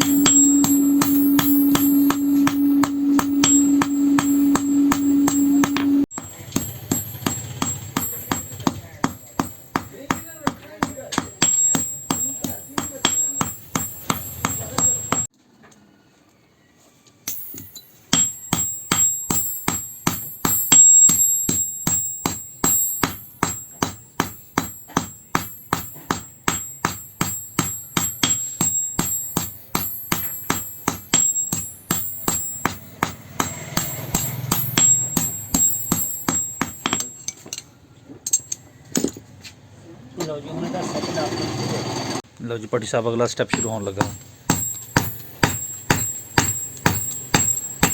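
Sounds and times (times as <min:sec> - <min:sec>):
hammer striking steel on anvil: 0:00.0 - 0:15.3, 0:17.3 - 0:39.2, 0:43.4 - 0:47.9.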